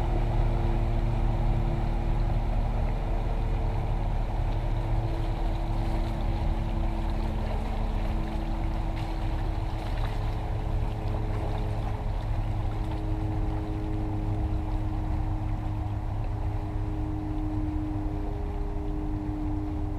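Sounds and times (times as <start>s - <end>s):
constant low rumble: 0.0s - 19.9s
motorboat engines droning: 0.0s - 19.9s.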